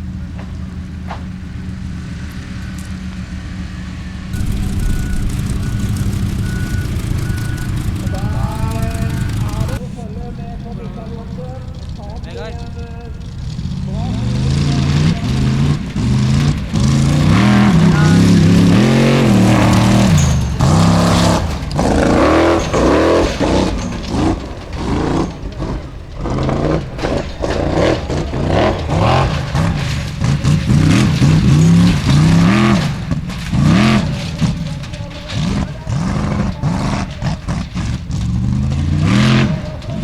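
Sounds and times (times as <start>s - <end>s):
buggy engine revving hard: 0.0s - 40.0s.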